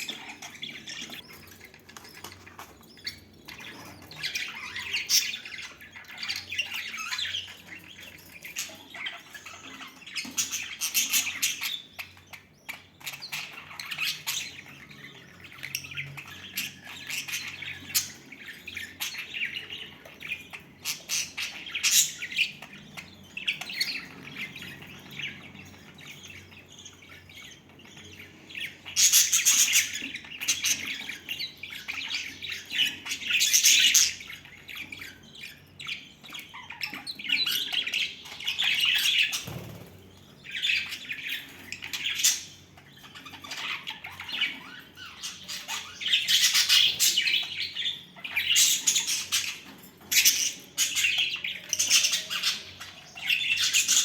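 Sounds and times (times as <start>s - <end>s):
budgerigars chattering and squawking: 0.0s - 54.0s.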